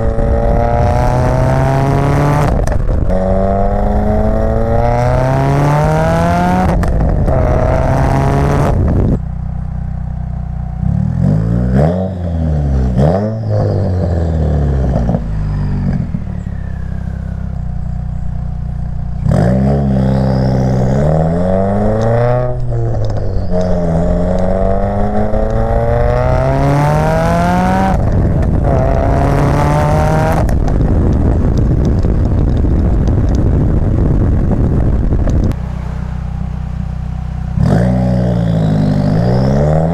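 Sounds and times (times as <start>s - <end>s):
car engine accelerating through upshifts: 0.0s - 9.8s, 10.8s - 39.9s.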